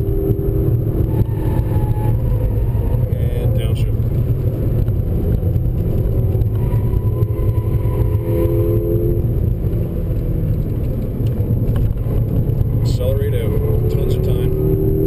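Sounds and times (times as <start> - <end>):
car engine at speed: 0.0 - 15.0
road and tyre noise: 0.0 - 15.0.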